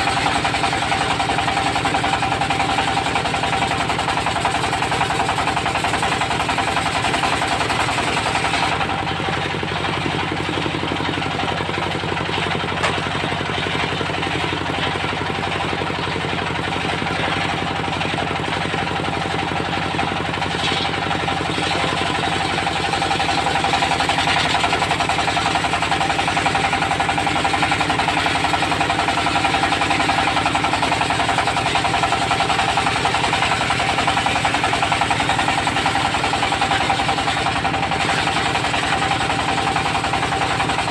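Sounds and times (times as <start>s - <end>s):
sawmill engine knocking: 0.0s - 40.9s.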